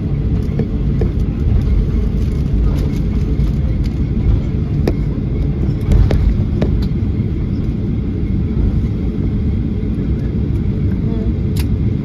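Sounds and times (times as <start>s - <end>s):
jet engines idling: 0.0s - 12.0s
wheels rolling on taxiway: 0.0s - 12.0s.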